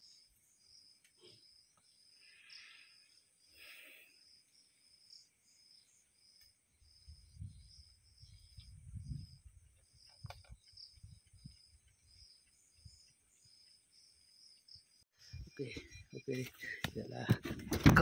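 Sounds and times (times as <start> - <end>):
cricket chirping: 0.0 - 17.3.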